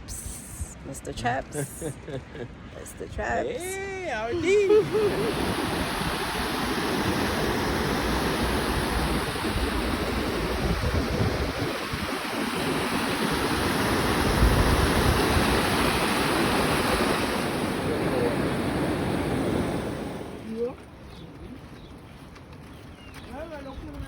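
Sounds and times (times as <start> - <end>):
wind buffeting microphone: 2.5 - 24.0.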